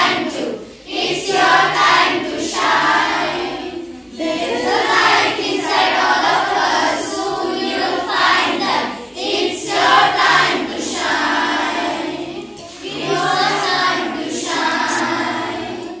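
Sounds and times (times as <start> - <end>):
children's choir singing in unison: 0.0 - 16.0.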